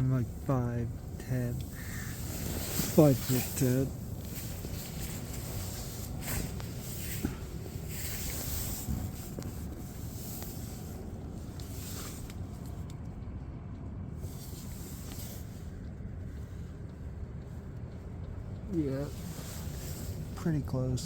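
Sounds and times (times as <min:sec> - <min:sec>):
air heater rumbling with hiss: 0:00.0 - 0:21.0.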